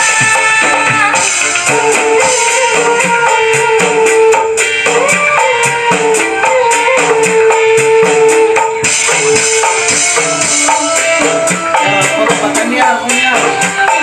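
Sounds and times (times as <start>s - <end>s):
drum pad rhythm: 0.0s - 14.0s
sliding melody line: 0.0s - 14.0s.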